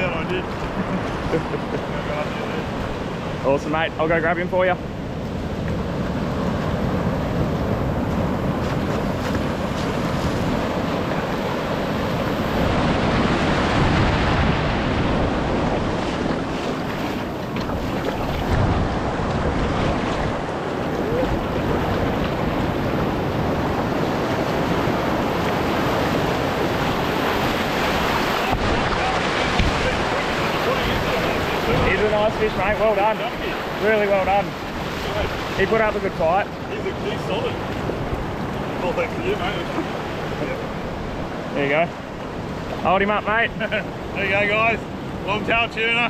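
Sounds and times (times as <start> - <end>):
ocean surf breaking: 0.0 - 46.0
wind buffeting microphone: 4.8 - 42.8.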